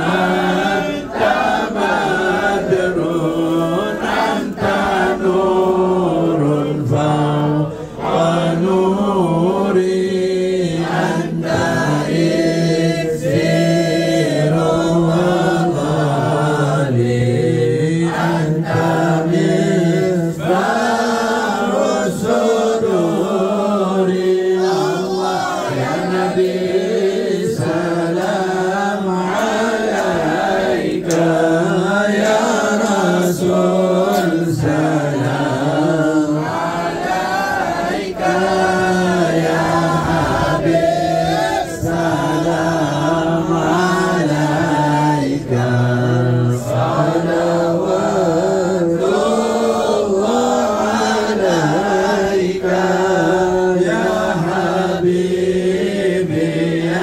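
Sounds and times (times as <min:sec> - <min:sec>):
group chanting in unison: 0:00.0 - 0:57.0.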